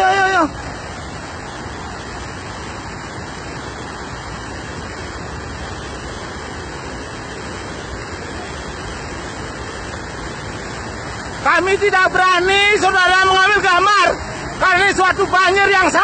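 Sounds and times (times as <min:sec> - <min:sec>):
mudflow rushing down river: 0:00.0 - 0:16.0.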